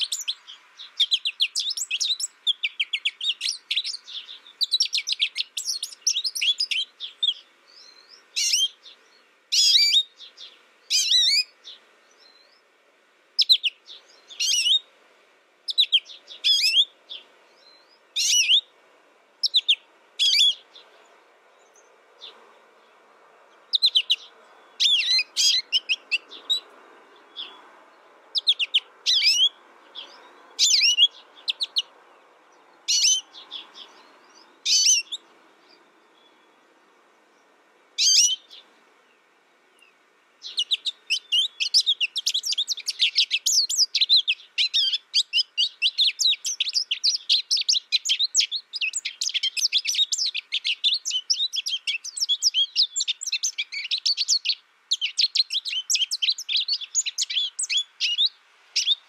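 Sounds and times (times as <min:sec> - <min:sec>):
goldfinch twittering song: 0:00.0 - 0:12.7, 0:13.4 - 0:14.9, 0:15.7 - 0:18.7, 0:19.4 - 0:22.4, 0:23.5 - 0:27.7, 0:28.4 - 0:36.6, 0:38.0 - 0:38.7, 0:39.8 - 0:59.0.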